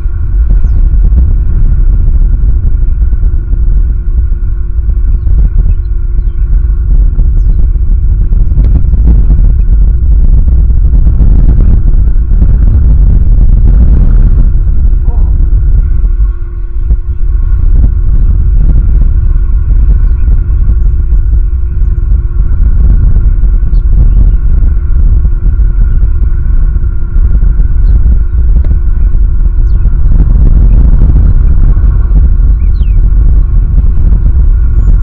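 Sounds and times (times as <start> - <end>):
faint steady hums: 0.0 - 35.0
wind buffeting microphone: 0.0 - 35.0.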